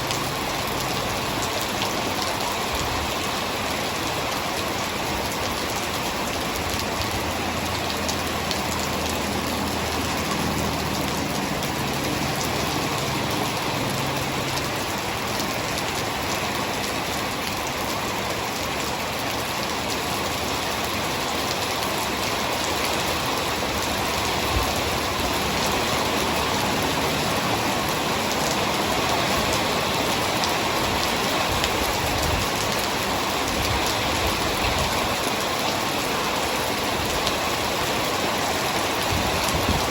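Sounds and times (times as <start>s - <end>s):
heavy rain hissing: 0.0s - 39.9s
raindrops ticking on a surface: 0.0s - 39.9s.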